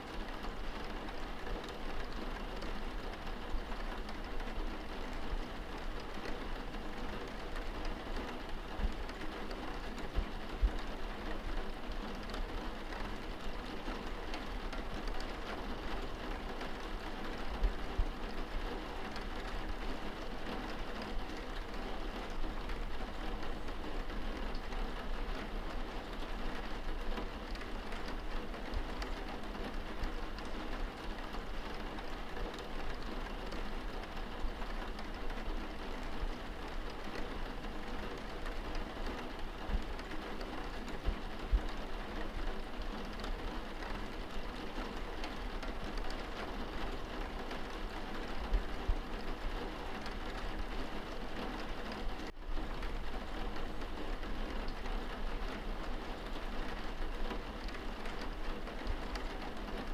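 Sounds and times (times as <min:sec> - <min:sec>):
rain falling on a window: 0:00.0 - 0:59.9.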